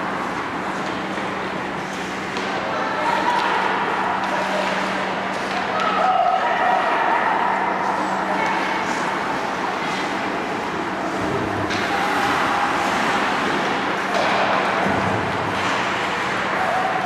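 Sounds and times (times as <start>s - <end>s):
noisy din of ice hockey rink: 0.0s - 17.0s.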